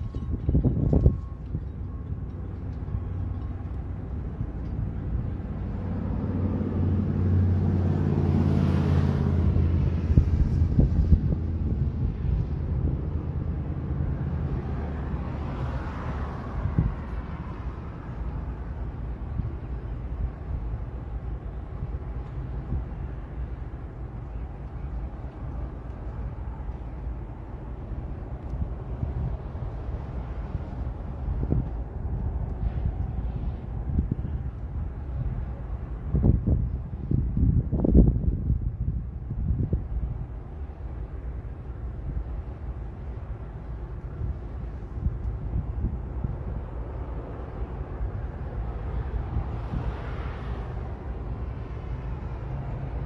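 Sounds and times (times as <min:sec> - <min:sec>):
heavy diesel engines rumbling: 0:00.0 - 0:53.0.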